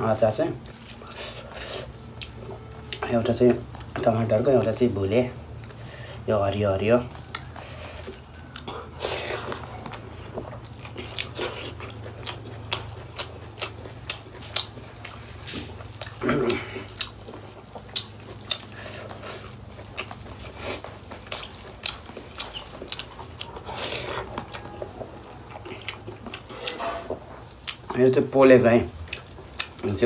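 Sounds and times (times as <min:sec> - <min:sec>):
steady low hum: 0:00.0 - 0:30.0
person chewing: 0:00.2 - 0:04.8, 0:05.5 - 0:06.3, 0:07.0 - 0:28.2, 0:28.9 - 0:30.0.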